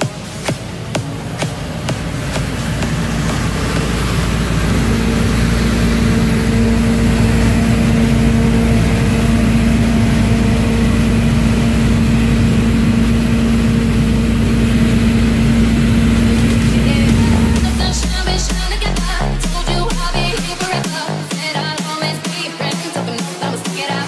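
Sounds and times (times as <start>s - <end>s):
combine harvester droning: 0.0s - 20.8s.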